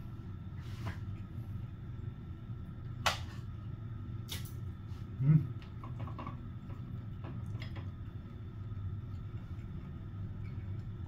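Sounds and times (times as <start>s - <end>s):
steady low hum: 0.0s - 11.0s
faint eating sounds: 0.5s - 11.0s.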